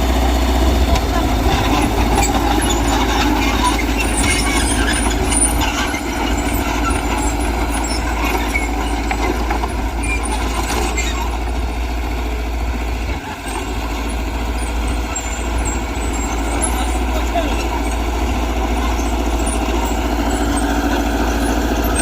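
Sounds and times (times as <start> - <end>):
heavy diesel machinery running: 0.0 - 22.0.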